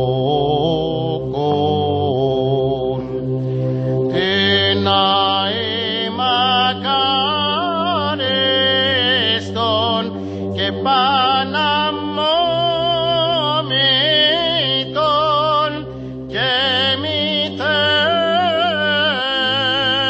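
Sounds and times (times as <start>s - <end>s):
held drone note: 0.0s - 20.0s
man chanting ornamented melody: 0.0s - 20.0s.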